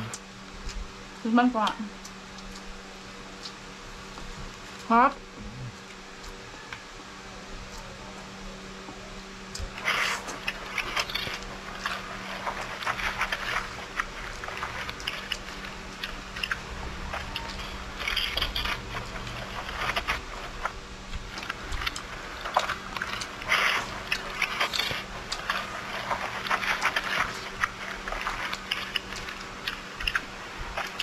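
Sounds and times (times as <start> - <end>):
people chewing food: 0.0 - 31.0.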